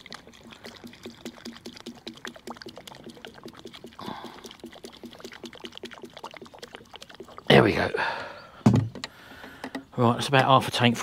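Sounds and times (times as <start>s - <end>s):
petrol gurgling into fuel tank: 0.0s - 9.4s.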